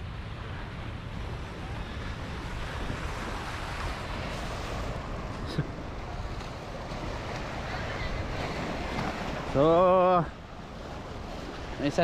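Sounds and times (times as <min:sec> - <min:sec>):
small waves washing onto shore: 0:00.0 - 0:12.0
wind buffeting microphone: 0:00.0 - 0:12.0.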